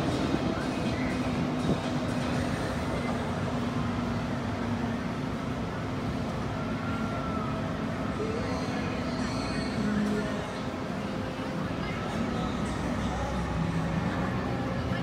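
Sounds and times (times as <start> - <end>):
outdoor noise: 0.0 - 15.0
ride machinery low hum: 0.0 - 15.0.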